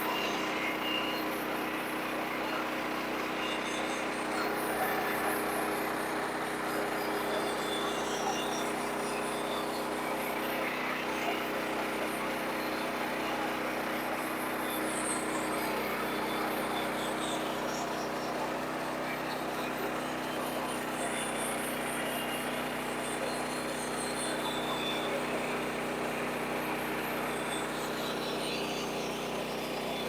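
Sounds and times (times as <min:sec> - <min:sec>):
sawmill engine droning: 0:00.1 - 0:30.0.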